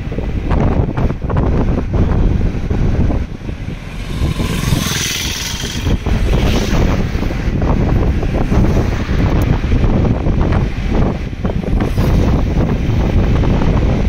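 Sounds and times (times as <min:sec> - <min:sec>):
car road and engine rumble: 0:00.0 - 0:14.0
wind buffeting microphone: 0:00.0 - 0:14.0.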